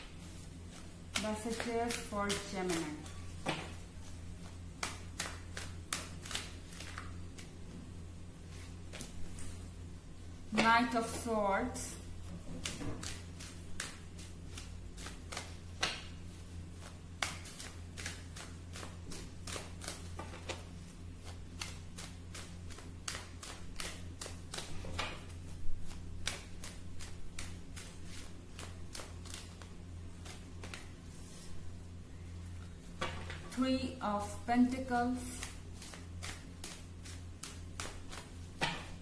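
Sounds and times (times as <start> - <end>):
cards being shuffled: 0.0 - 7.8, 8.4 - 9.6, 12.2 - 31.6, 35.2 - 39.0.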